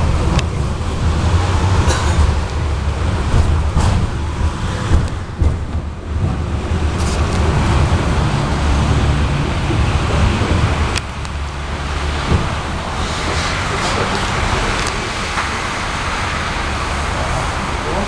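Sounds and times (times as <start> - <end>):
tram running gear rumble: 0.0 - 18.0
wheel-on-rail noise: 0.0 - 18.0.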